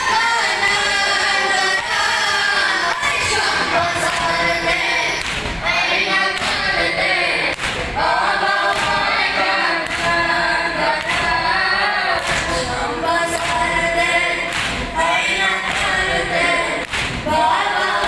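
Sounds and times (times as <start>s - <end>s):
group chanting in unison: 0.0s - 18.0s.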